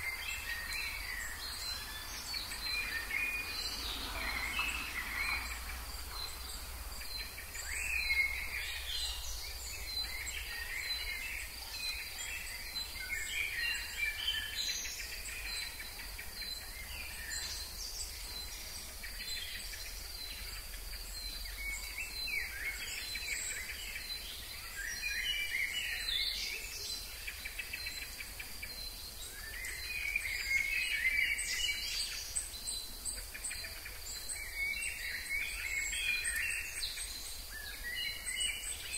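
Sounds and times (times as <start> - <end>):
birds chirping and whistling: 0.0 - 38.9
high pulsing insect chorus: 0.0 - 38.9.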